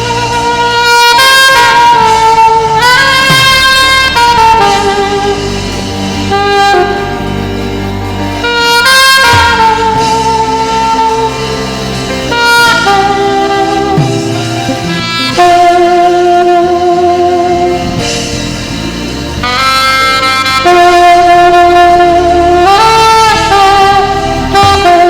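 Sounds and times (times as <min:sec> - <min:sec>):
band accompaniment with bass: 0:00.0 - 0:25.0
saxophone melody: 0:00.0 - 0:25.0.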